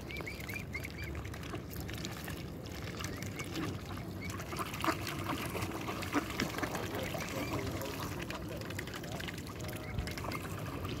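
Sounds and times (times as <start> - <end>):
birds splashing in water: 0.0 - 11.0.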